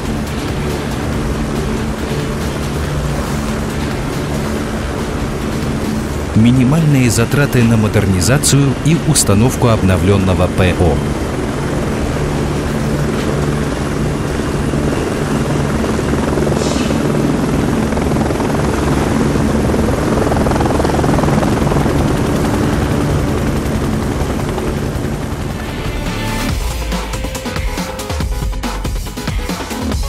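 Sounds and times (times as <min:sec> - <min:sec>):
helicopter rotor and turbine: 0:00.0 - 0:30.0.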